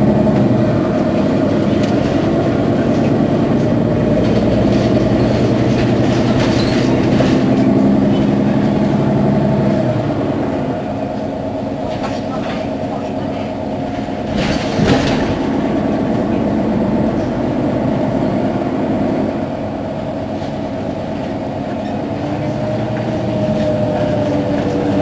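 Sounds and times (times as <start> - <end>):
bus diesel engine idling: 0.0 - 25.0.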